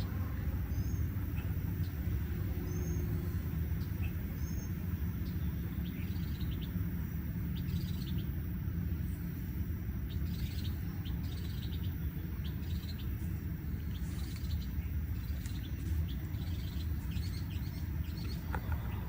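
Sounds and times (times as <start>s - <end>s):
birds chirping: 0.0s - 19.0s
low rumble: 0.0s - 19.0s.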